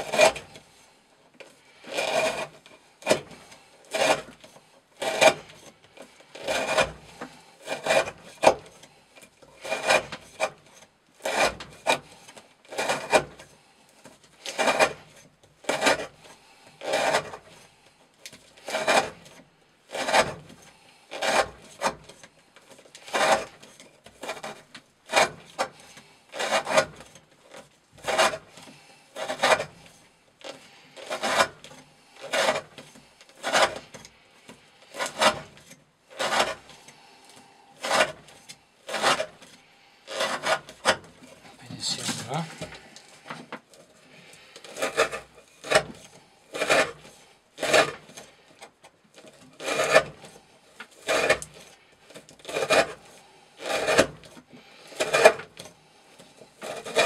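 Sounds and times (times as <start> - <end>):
knife scraping through rope: 0.0 - 57.0.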